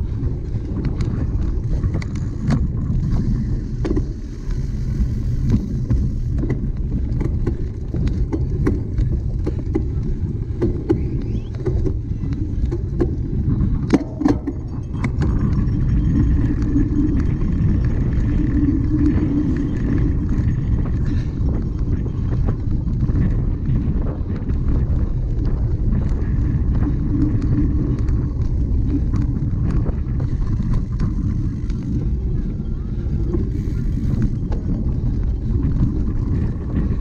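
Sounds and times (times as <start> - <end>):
bike rattling and clicking: 0.0 - 37.0
wind on microphone: 0.0 - 37.0.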